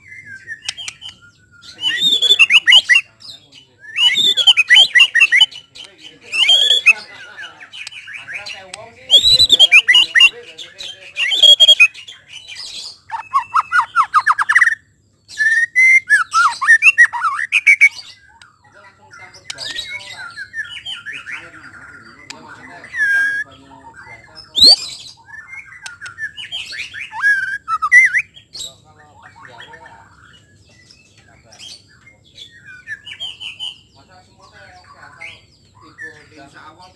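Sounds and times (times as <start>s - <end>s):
bird singing varied song: 0.0s - 36.9s.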